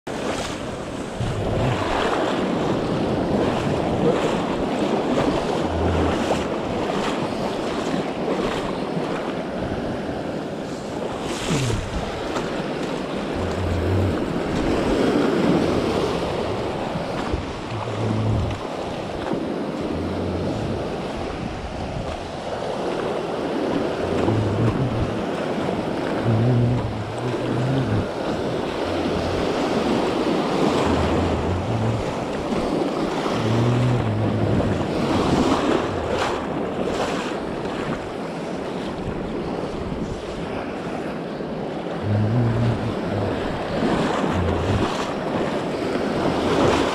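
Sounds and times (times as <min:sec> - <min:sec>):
surf washing over rocks: 0:00.1 - 0:46.9
wind buffeting microphone: 0:00.2 - 0:38.3.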